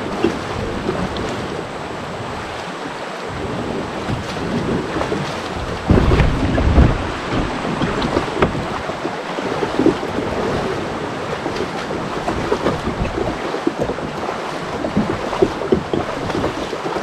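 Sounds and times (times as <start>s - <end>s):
water splashing around kayak: 0.0s - 17.0s
wind buffeting microphone: 0.0s - 17.0s.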